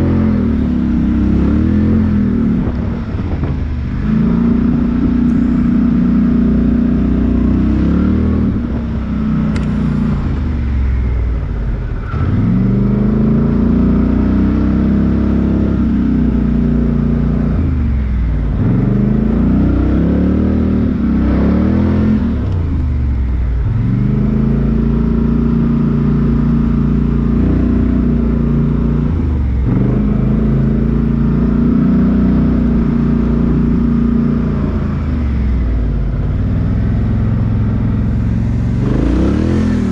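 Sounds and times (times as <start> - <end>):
off-road vehicle engine revving: 0.0 - 11.1, 12.0 - 22.9, 23.7 - 39.9.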